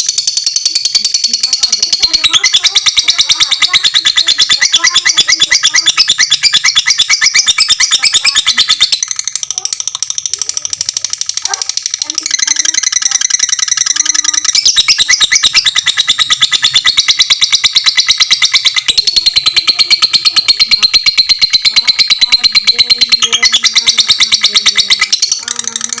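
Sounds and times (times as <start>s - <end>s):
lovebird chattering: 0.0s - 26.0s.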